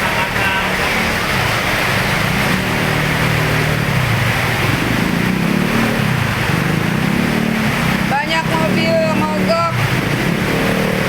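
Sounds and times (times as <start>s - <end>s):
churning water: 0.0s - 11.0s
heavy rain: 0.0s - 11.0s
vehicle engines running: 0.0s - 11.0s.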